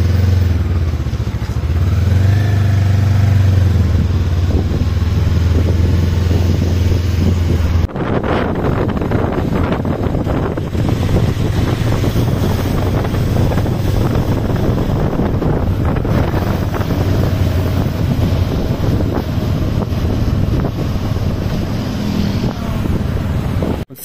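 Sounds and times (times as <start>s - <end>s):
motorbike engine and road rumble: 0.0s - 24.0s
wind buffeting microphone: 1.8s - 23.9s.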